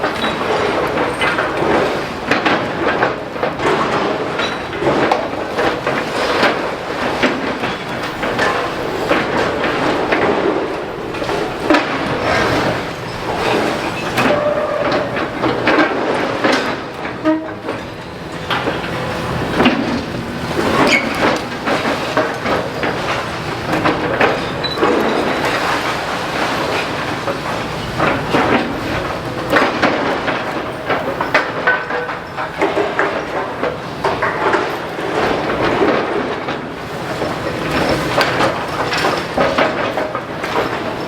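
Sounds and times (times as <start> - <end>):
excavator machine noise: 0.0 - 41.0.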